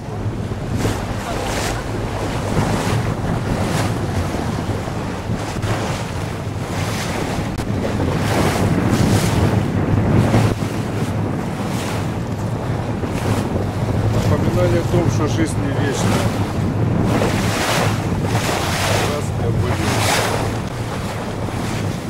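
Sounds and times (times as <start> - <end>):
boat engine humming: 0.0 - 22.0
sea water rushing: 0.0 - 22.0
wind buffeting microphone: 0.0 - 22.0.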